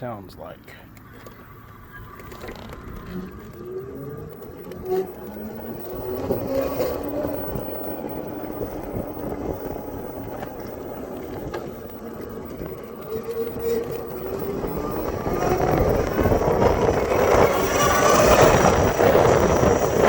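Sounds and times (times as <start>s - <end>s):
low wind: 0.0s - 20.0s
electric motorcycle whining: 0.9s - 20.0s
road rumble: 0.9s - 20.0s.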